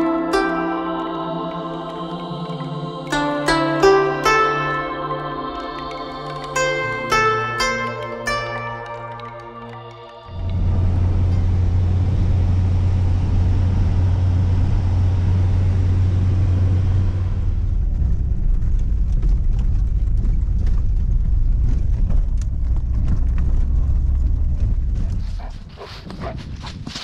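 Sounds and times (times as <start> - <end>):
engine and drivetrain drone: 0.0 - 27.0.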